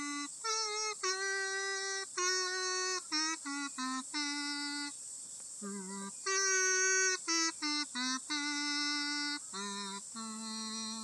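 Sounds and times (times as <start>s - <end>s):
slow melody of held notes: 0.0s - 4.9s, 5.6s - 11.0s.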